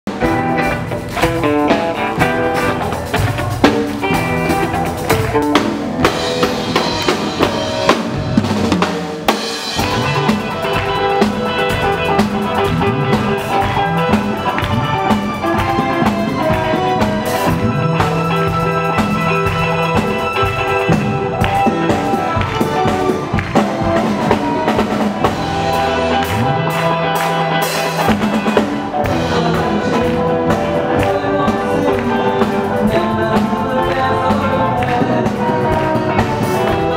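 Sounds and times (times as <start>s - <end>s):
drum kit: 0.0s - 36.9s
electric bass: 0.1s - 36.9s
keyboards: 0.1s - 36.9s.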